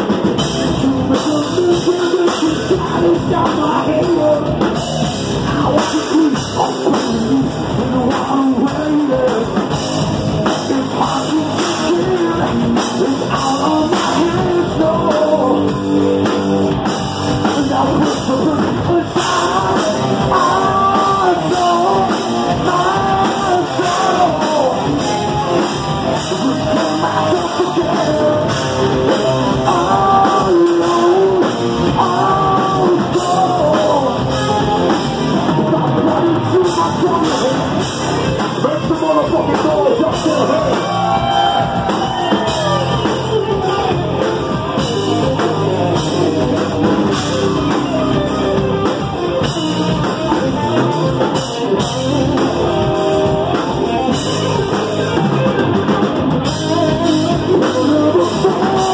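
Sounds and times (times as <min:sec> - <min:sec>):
distorted electric guitars: 0:00.0 - 0:58.9
drum kit: 0:00.0 - 0:58.9
man singing: 0:00.0 - 0:58.9.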